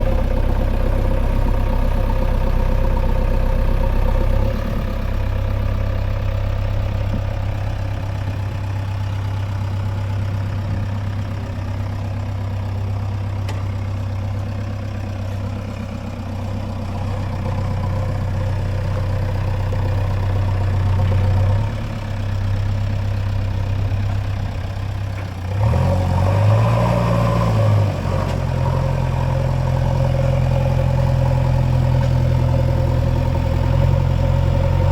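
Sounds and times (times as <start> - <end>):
diesel engine running and revving: 0.0 - 34.9.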